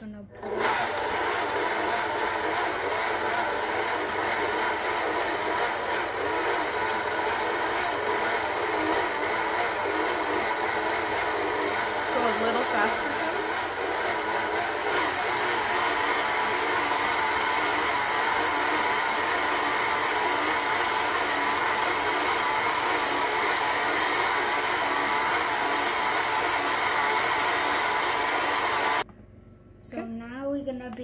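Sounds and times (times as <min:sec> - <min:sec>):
electric stand mixer running: 0:00.4 - 0:29.0.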